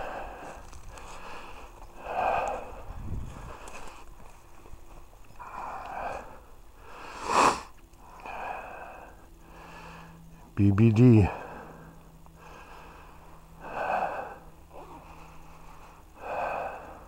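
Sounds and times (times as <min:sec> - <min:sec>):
person breathing heavily: 0:00.0 - 0:04.1, 0:05.4 - 0:10.6, 0:11.3 - 0:17.0.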